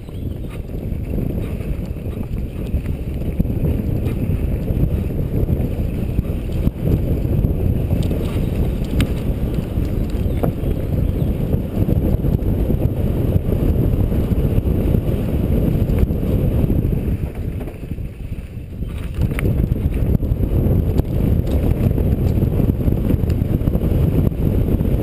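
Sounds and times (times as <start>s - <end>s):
bike tyres rumbling over ground: 0.0s - 25.0s
wind rushing over camera: 0.0s - 25.0s.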